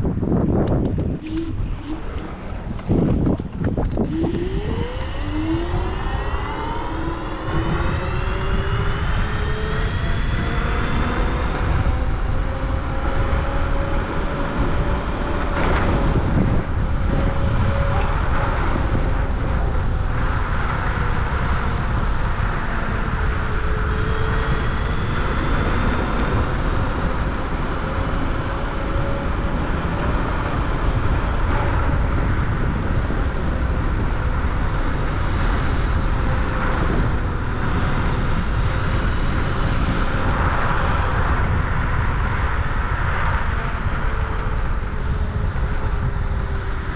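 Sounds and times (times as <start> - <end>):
vehicle motor whine: 0.0 - 46.9
wind rumble on microphone: 0.0 - 46.9.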